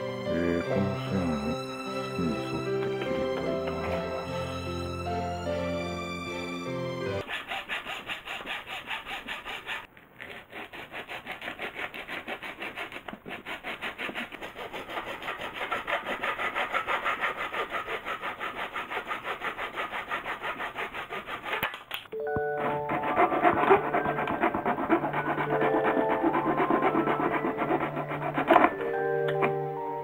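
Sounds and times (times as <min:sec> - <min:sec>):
hand saw cutting wood: 0:00.3 - 0:04.8, 0:07.2 - 0:21.8, 0:22.5 - 0:29.6.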